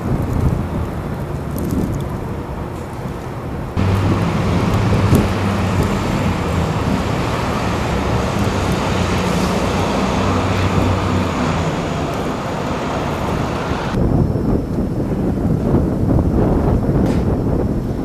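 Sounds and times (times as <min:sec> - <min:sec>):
street traffic noise: 0:00.0 - 0:17.3
wind: 0:00.0 - 0:18.0.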